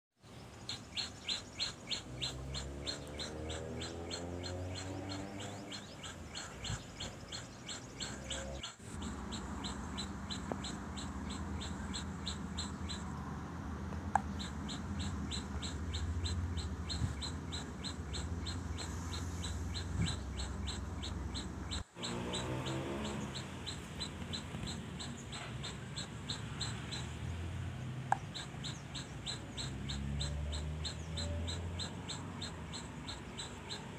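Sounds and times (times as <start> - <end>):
rapid high bird chirps: 0.2 - 13.3, 14.0 - 33.9
low drawn-out bird calls: 0.4 - 13.4, 14.0 - 33.9.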